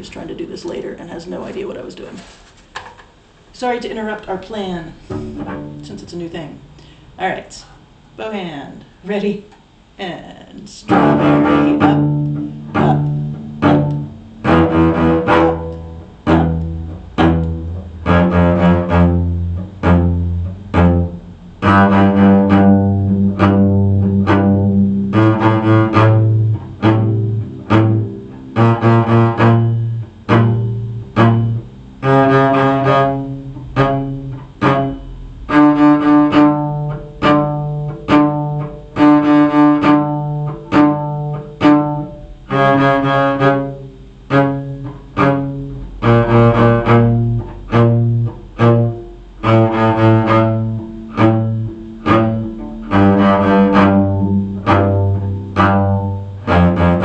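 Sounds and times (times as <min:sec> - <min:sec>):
bowed string instrument scale: 0:03.8 - 0:07.4, 0:10.8 - 0:57.0.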